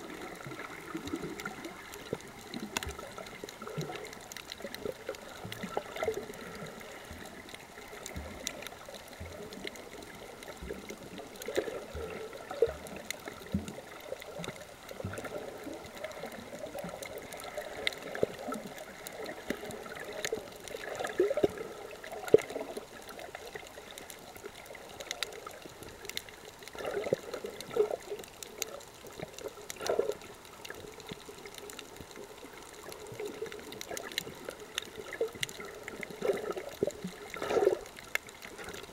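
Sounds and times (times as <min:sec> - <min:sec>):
water gurgling underwater: 0:00.0 - 0:38.9
small clicks: 0:00.7 - 0:38.9.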